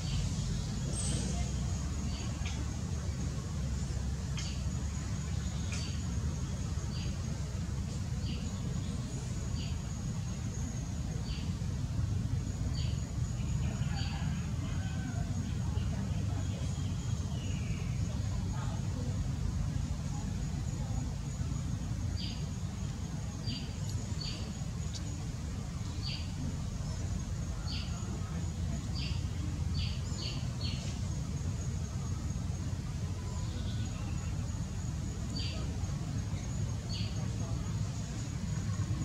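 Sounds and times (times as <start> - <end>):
faint high whine: 0.0 - 39.0
high insect drone: 0.0 - 39.0
low rumbling background noise: 0.0 - 39.0.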